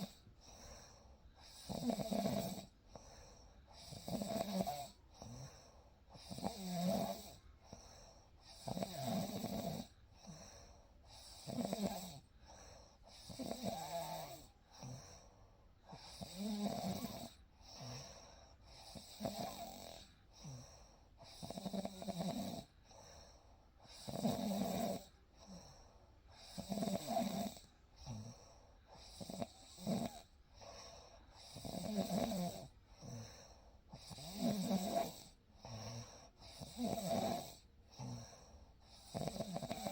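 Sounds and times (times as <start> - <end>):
soft breathing: 0.0 - 9.0, 9.8 - 16.3, 17.4 - 21.6, 22.6 - 24.2, 25.0 - 39.9
person snoring: 0.0 - 15.2, 15.9 - 22.7, 23.8 - 25.7, 26.3 - 28.4, 29.0 - 39.9.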